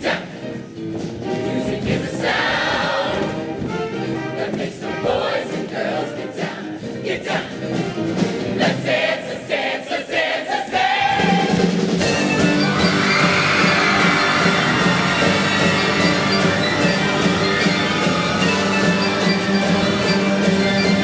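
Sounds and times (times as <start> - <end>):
choir singing with band: 1.2 - 21.0.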